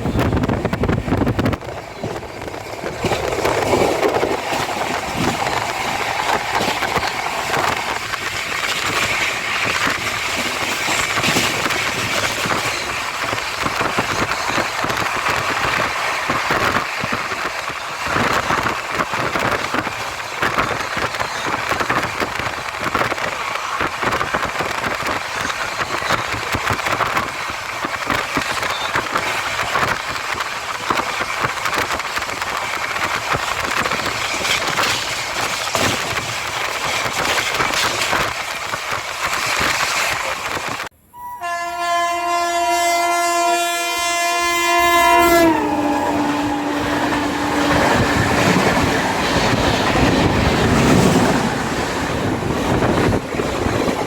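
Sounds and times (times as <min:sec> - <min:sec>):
train wheels rattling on track: 0:00.0 - 0:41.0, 0:42.0 - 0:54.0.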